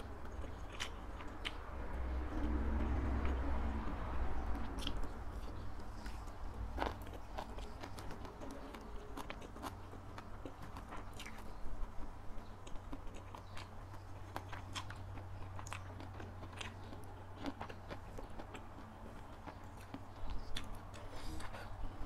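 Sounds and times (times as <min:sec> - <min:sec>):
chewing sticky food: 0:00.0 - 0:22.0
low steady hum: 0:00.0 - 0:22.0.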